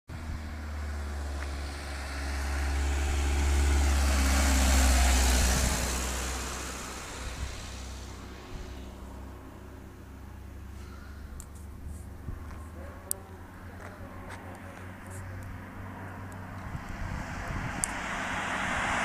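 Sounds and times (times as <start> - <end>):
van driving past: 0.1 - 19.0.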